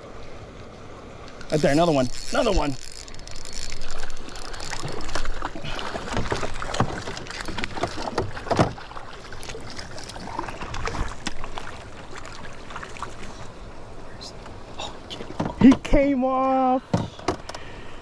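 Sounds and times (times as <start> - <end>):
water sloshing and splashing: 0.0 - 16.1.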